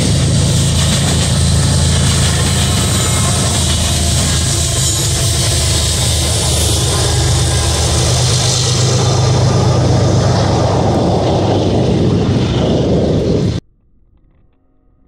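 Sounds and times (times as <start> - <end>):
diesel locomotive engine drone: 0.0 - 13.6
train rolling on rails: 0.0 - 13.6.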